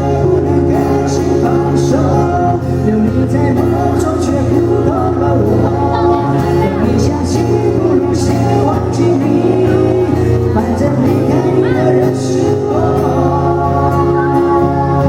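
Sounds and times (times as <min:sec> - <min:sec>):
live band playing a ballad: 0:00.0 - 0:15.0
man singing: 0:00.0 - 0:15.0.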